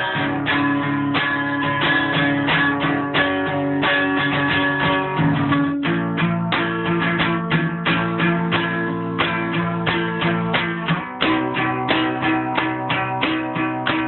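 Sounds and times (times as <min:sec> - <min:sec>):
guitar strummed: 0:00.0 - 0:14.0.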